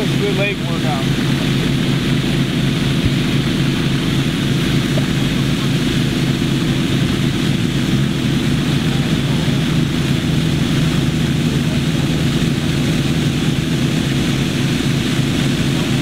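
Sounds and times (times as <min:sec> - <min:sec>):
water pump engine droning: 0:00.0 - 0:16.0.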